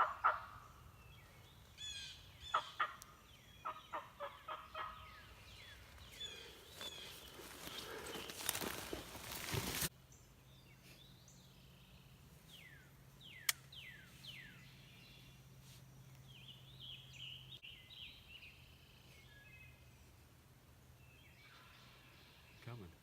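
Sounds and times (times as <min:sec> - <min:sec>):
songbirds whistling and twittering: 0:00.0 - 0:20.2.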